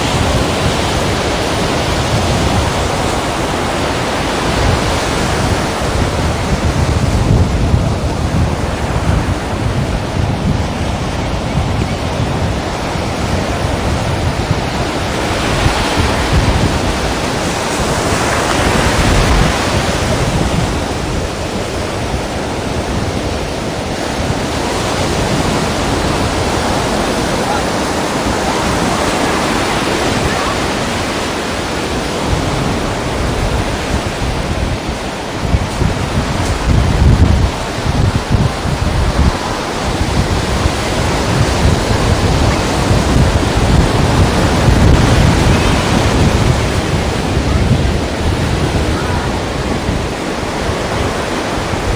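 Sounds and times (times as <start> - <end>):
waves breaking against rocks: 0.0 - 51.9.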